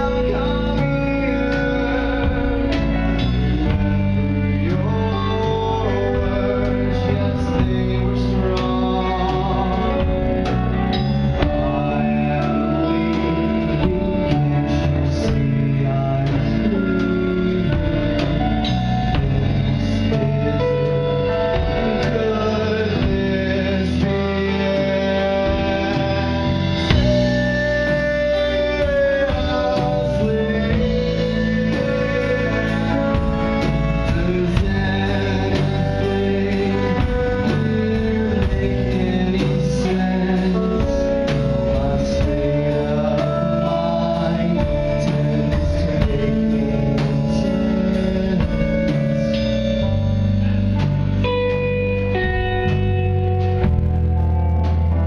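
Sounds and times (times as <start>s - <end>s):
drum kit: 0.0s - 55.0s
electric guitars: 0.0s - 55.0s
man singing: 0.0s - 55.0s.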